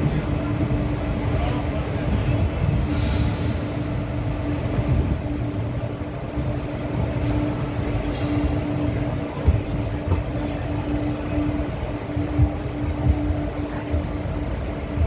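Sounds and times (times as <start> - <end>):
constant hum: 0.0 - 15.0
train wheels rumbling on rail: 0.0 - 15.0.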